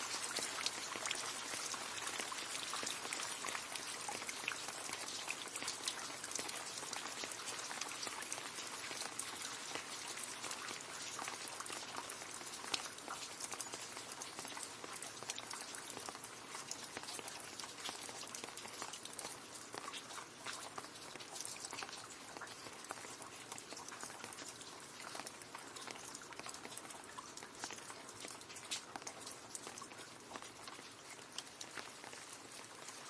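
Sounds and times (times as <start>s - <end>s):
rain pattering into a puddle: 0.0s - 33.0s.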